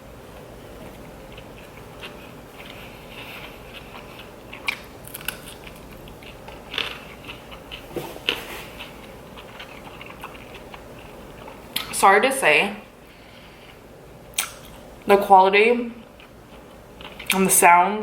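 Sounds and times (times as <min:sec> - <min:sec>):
chewing crunchy food: 0:00.1 - 0:12.0, 0:12.8 - 0:15.1, 0:15.9 - 0:17.5.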